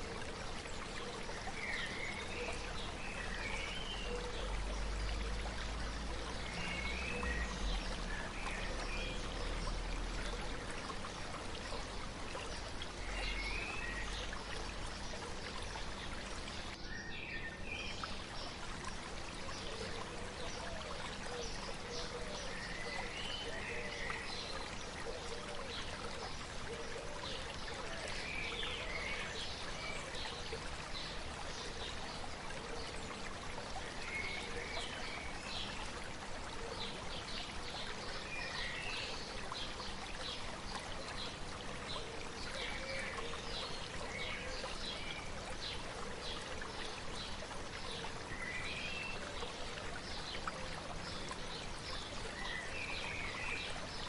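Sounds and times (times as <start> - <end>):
stream babbling: 0.0 - 54.0.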